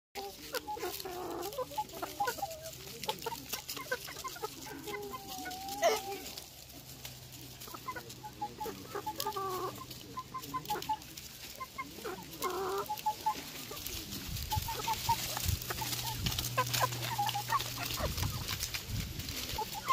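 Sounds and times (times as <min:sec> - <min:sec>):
chickens clucking: 0:00.2 - 0:19.9.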